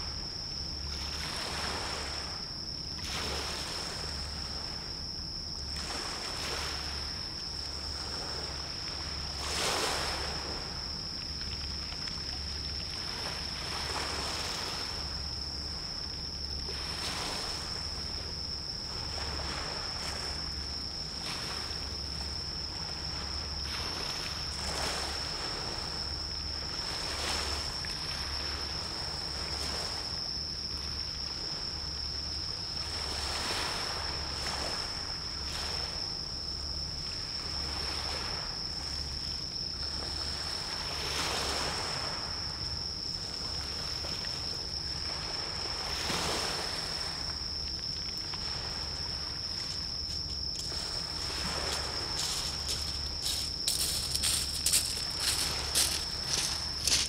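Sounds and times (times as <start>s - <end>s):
steady hiss of water: 0.0s - 57.0s.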